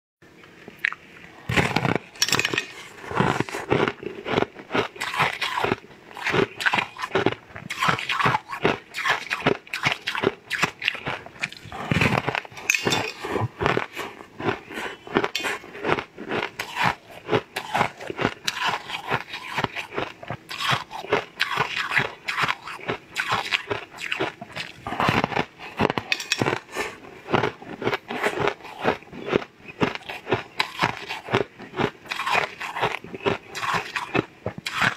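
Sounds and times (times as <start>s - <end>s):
biting and chewing: 0.6s - 34.9s.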